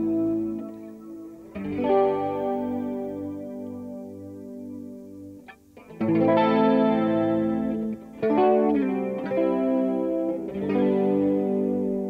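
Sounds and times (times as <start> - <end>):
electric guitar chords ringing: 0.0 - 12.0.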